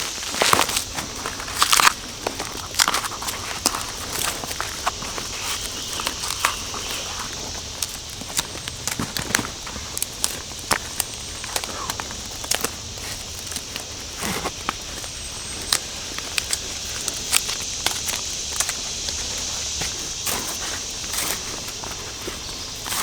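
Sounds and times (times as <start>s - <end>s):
footsteps on leaf litter: 0.0s - 23.0s
steady high hiss: 0.0s - 23.0s
twigs snapping: 0.0s - 23.0s.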